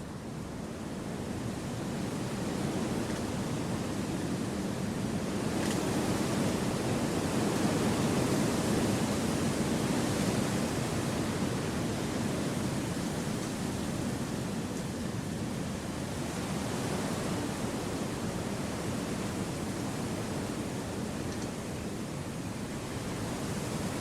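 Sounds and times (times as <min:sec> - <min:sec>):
wind through forest trees: 0:00.0 - 0:24.0.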